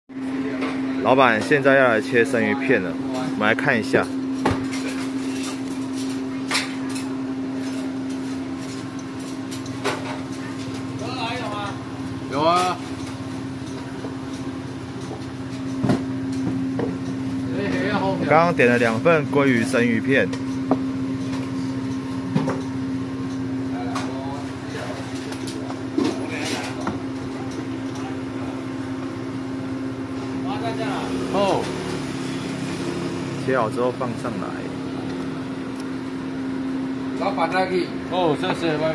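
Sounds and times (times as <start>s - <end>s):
steady low hum: 0.1s - 38.9s.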